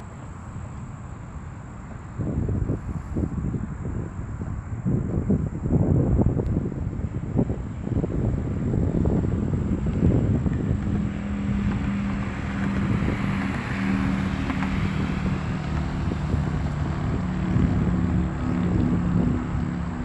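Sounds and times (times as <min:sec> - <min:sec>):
airliner engines rumbling: 0:00.0 - 0:20.0
wind buffeting microphone: 0:00.0 - 0:20.0.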